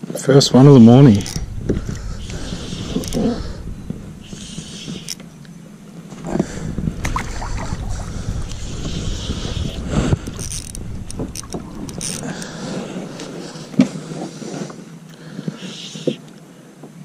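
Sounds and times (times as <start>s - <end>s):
wind rumbling on microphone: 0.0s - 14.6s
water sloshing against hull: 0.7s - 14.9s.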